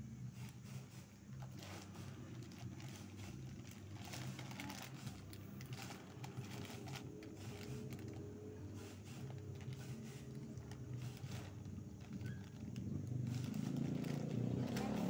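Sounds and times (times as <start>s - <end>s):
kittens eating kibble: 1.2s - 15.0s
plastic bag rustling: 1.2s - 15.0s.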